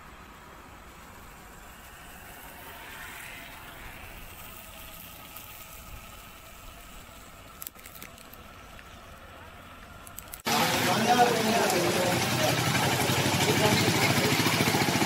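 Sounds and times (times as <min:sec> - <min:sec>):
faint outdoor hiss: 0:00.0 - 0:14.7.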